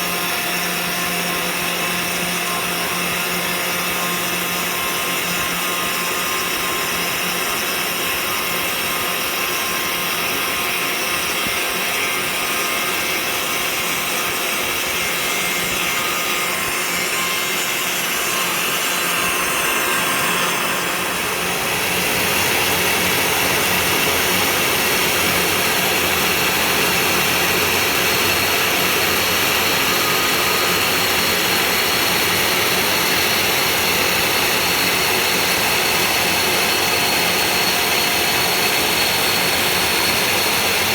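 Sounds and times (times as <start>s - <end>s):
router spindle whine cutting: 0.0s - 40.9s.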